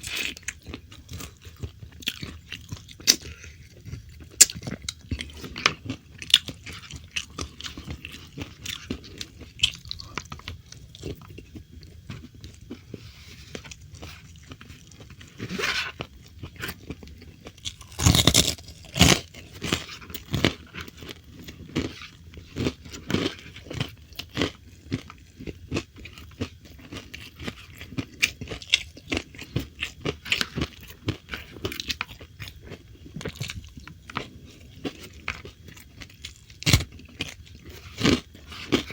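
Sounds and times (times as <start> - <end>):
crunchy chewing of fried food: 0.0 - 38.9.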